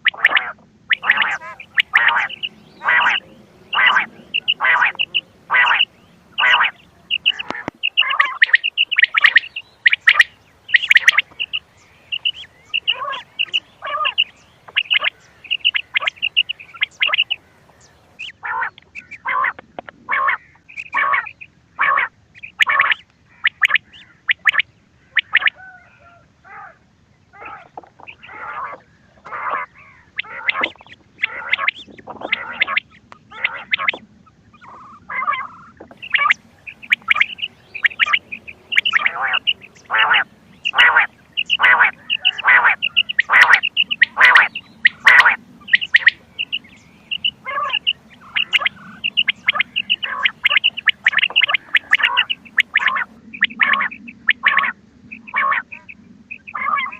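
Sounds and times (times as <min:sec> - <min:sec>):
quail calls: 0:00.0 - 0:56.9.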